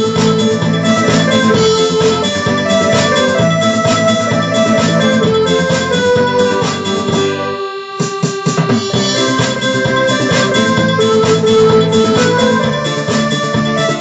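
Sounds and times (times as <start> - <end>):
drum strikes: 0.0 - 14.0
electronic keyboard dance tune: 0.0 - 14.0.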